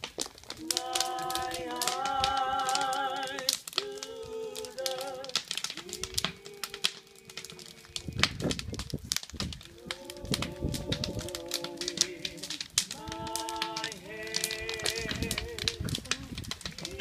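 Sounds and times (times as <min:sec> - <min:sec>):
clicks and crackles: 0:00.0 - 0:17.0
person singing with vibrato: 0:00.6 - 0:08.2, 0:09.7 - 0:17.0.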